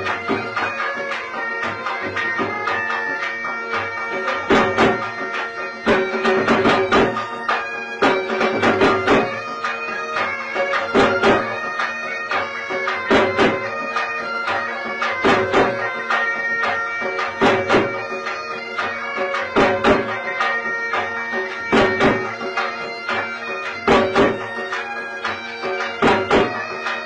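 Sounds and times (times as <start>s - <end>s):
bagpipes playing: 0.0s - 27.0s
drum strokes: 0.0s - 27.0s.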